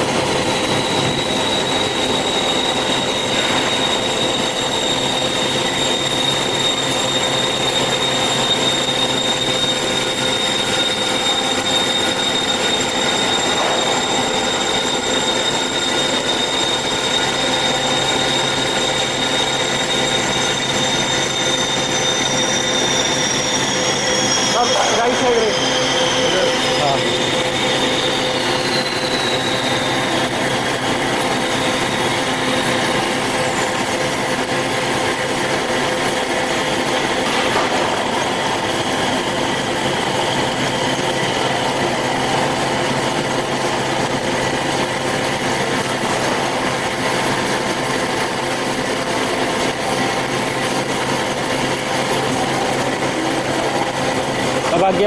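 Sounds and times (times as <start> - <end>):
band saw cutting: 0.0 - 55.0.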